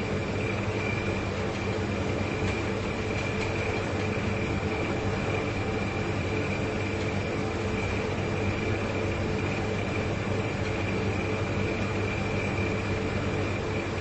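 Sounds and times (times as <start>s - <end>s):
refrigerator compressors humming: 0.0s - 14.0s.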